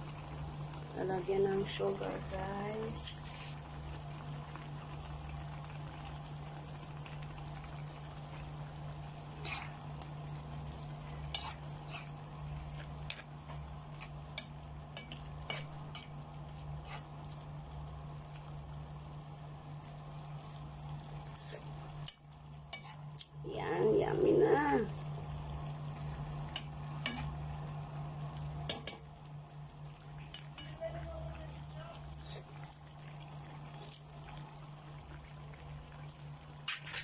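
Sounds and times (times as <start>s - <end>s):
sauce sizzling and bubbling in pan: 0.0s - 37.0s.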